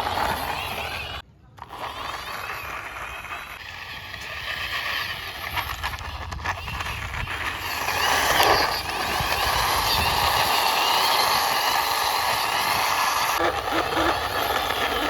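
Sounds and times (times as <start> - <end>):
plastic wheels rolling gritty: 0.0 - 15.0.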